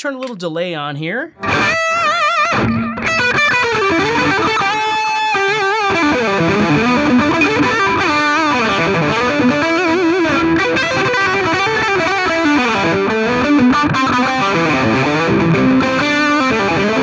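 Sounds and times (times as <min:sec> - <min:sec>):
distorted electric guitar lead: 0:01.3 - 0:17.0.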